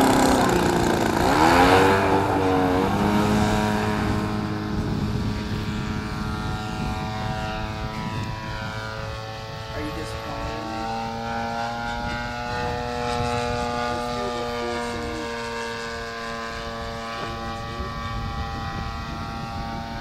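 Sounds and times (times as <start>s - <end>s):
model airplane motor droning: 0.0s - 20.0s.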